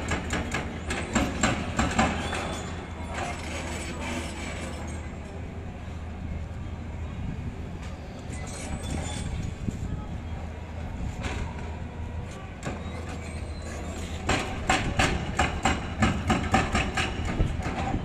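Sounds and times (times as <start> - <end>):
low diesel drone of excavators: 0.0 - 18.0.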